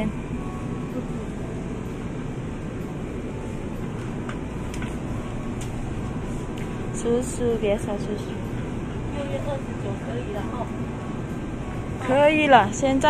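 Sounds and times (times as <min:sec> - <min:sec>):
refrigerated display case hum: 0:00.0 - 0:13.0.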